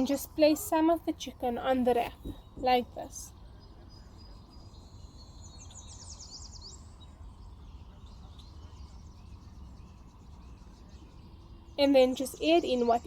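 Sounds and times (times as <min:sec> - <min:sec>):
bird chirping: 0:00.0 - 0:13.0
faint low hum: 0:00.0 - 0:13.0.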